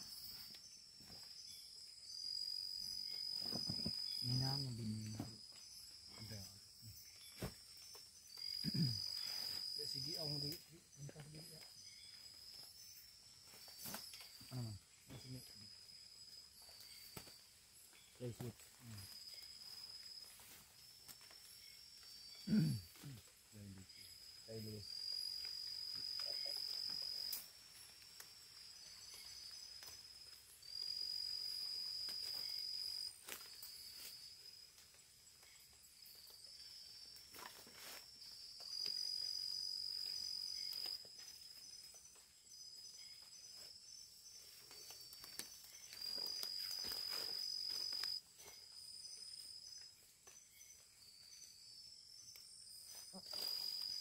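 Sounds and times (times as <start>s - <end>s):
faint insect calls: 0.0s - 54.0s
loud high-pitched insect trill: 0.0s - 54.0s.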